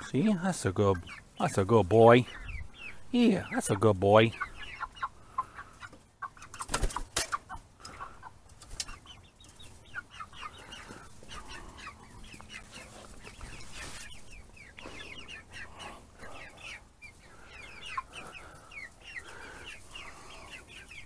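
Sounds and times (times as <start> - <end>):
young chickens clucking and peeping: 0.0 - 21.0.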